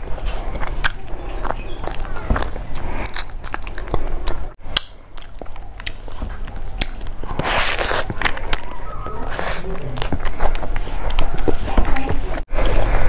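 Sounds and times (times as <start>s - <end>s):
chewing rice: 0.0s - 13.0s.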